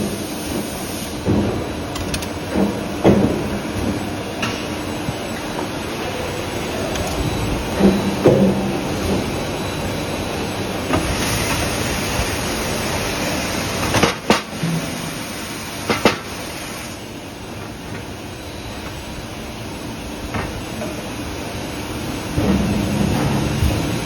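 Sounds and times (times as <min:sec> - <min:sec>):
machinery hiss and rumble: 0:00.0 - 0:24.0.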